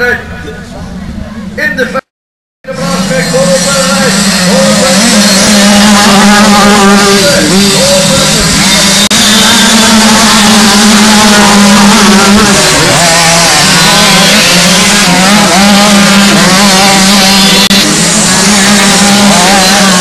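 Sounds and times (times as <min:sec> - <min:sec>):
motocross bikes engines droning: 0:02.7 - 0:20.0.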